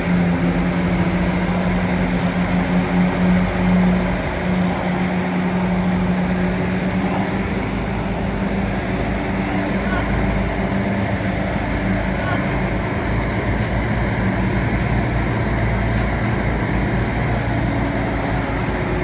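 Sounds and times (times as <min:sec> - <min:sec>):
bulldozer diesel engine humming: 0:00.0 - 0:19.0.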